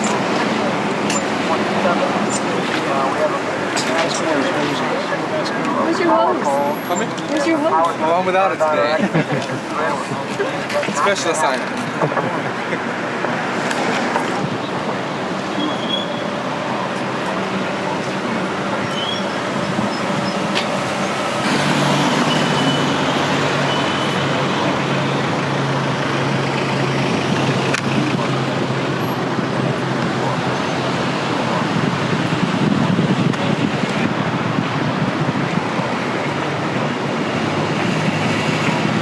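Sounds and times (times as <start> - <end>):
engine and traffic rumble: 0.0 - 39.0.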